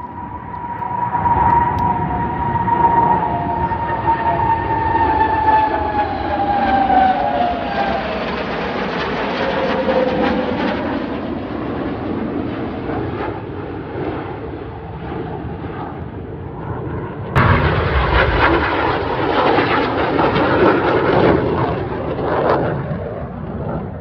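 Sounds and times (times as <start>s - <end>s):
jet aircraft passing by: 0.0s - 24.0s.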